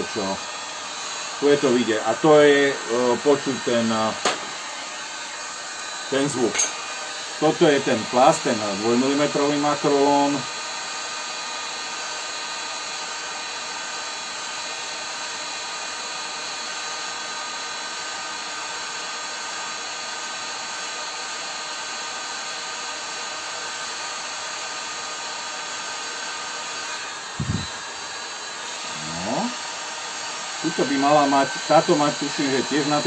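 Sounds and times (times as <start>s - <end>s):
heat gun fan blowing: 0.0s - 33.0s.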